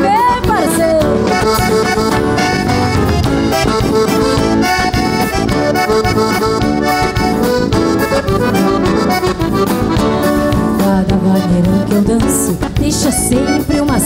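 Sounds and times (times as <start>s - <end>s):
accordion playing: 0.0s - 14.0s
acoustic guitar: 0.0s - 14.0s
drum kit beat: 0.0s - 14.0s.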